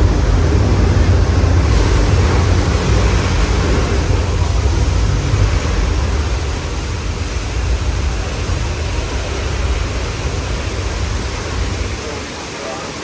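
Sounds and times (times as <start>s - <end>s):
wind noise on microphone: 0.0s - 12.4s
tram rumbling: 0.0s - 13.0s.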